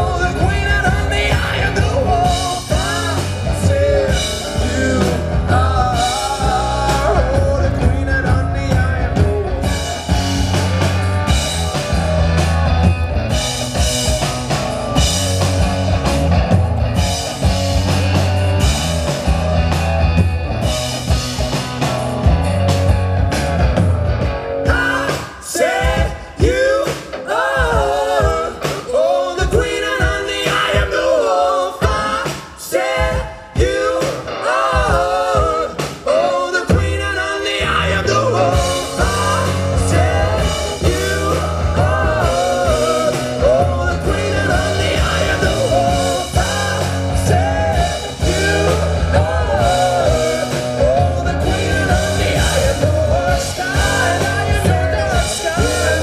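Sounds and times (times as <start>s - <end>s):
live rock band with singing: 0.0s - 56.0s.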